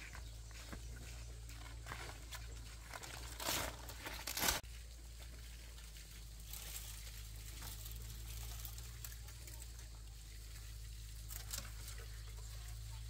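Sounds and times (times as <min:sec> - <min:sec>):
rustling and crunching handling: 0:00.0 - 0:13.0.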